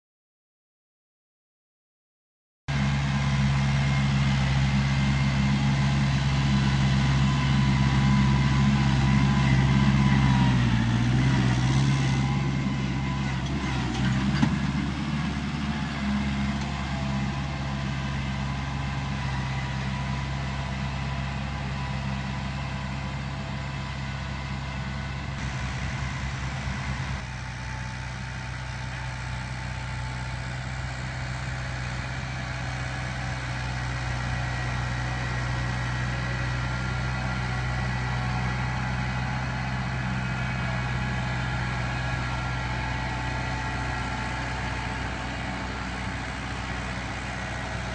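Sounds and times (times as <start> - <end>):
tractor diesel engine running: 2.7 - 47.9.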